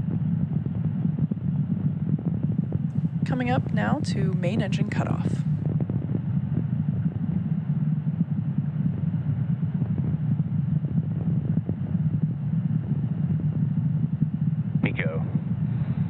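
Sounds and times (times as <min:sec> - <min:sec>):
distant rocket engines rumbling: 0:00.1 - 0:16.0.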